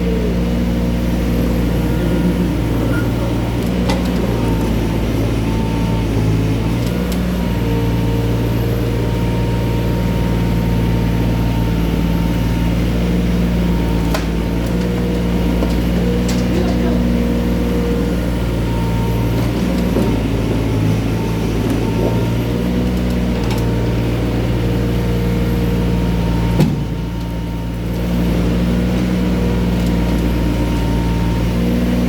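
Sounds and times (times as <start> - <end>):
machinery engine running under load: 0.0 - 32.0.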